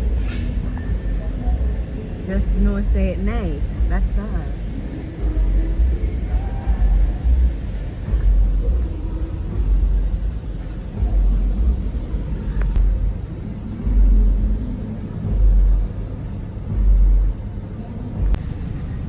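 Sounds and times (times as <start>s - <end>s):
vehicle rumbling: 0.0s - 19.0s
wind buffeting microphone: 0.0s - 19.0s.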